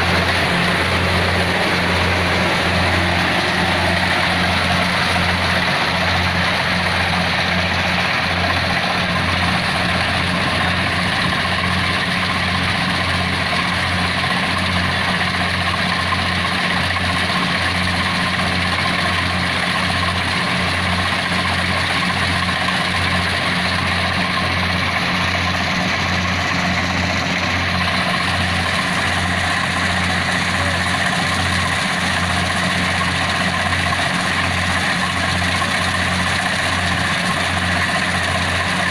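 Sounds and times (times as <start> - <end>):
diesel engine throbbing: 0.0 - 38.9.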